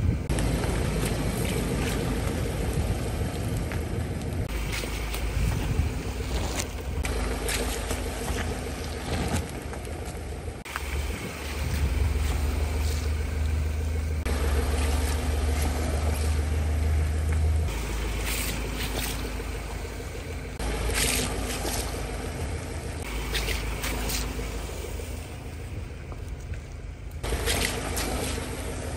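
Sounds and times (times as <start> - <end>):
car engine low rumble: 0.0 - 28.9
car tyre rolling on asphalt: 0.0 - 28.9.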